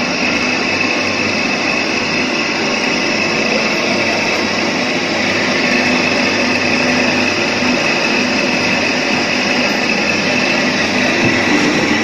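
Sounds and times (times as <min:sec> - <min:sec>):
juicer motor humming with hiss: 0:00.0 - 0:12.0.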